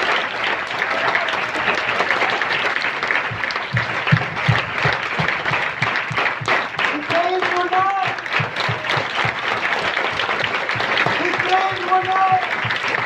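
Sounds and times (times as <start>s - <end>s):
crowd clapping: 0.0s - 13.0s.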